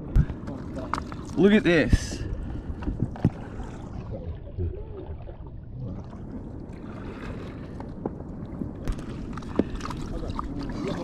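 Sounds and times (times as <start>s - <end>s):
water washing around kayak: 0.0s - 11.0s
wind rumbling on microphone: 0.0s - 11.0s.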